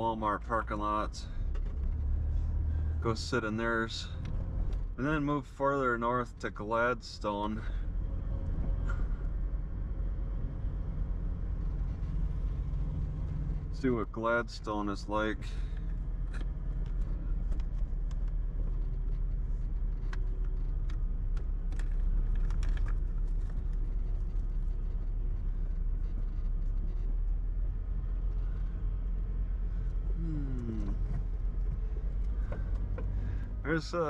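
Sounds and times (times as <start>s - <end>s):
vehicle road rumble: 0.0s - 34.0s.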